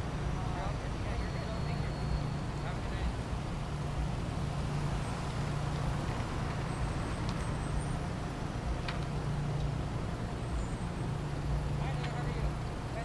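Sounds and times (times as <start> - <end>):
cars idling and rolling past: 0.0 - 13.0.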